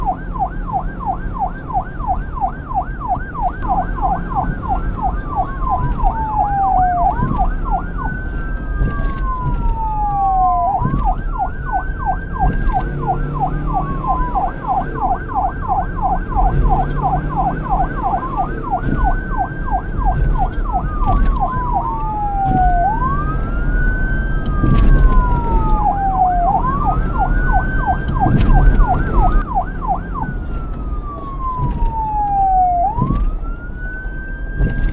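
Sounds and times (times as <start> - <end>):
police siren yelp and wail: 0.0 - 34.9.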